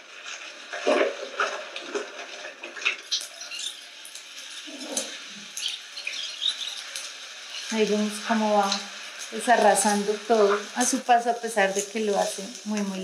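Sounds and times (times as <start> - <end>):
lava crackling and clicking: 0.1 - 13.0.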